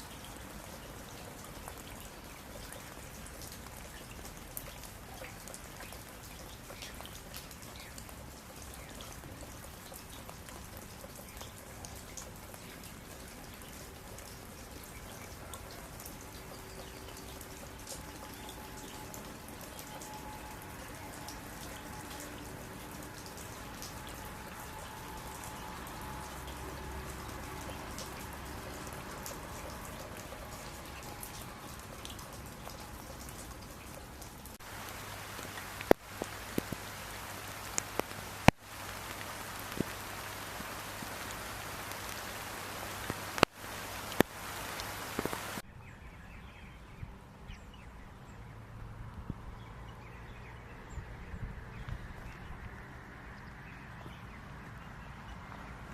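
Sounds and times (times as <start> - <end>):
water dripping and pattering: 0.0 - 45.6.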